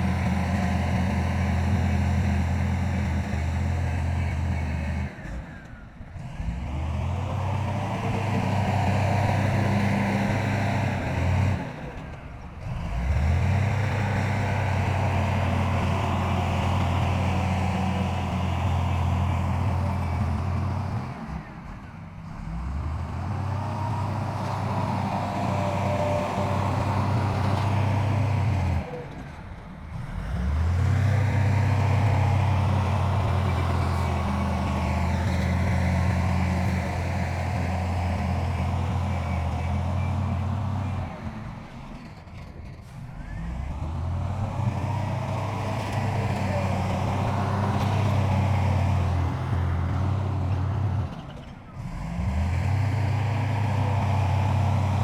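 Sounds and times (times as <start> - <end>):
heavy diesel engine drone: 0.0 - 55.0.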